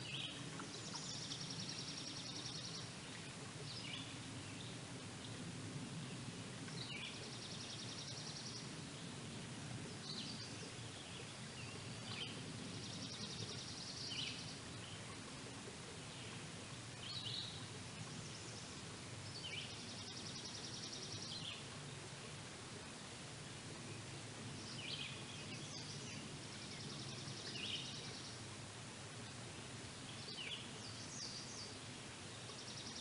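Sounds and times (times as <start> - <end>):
songbird singing: 0.0 - 33.0
steady low background noise: 0.0 - 33.0.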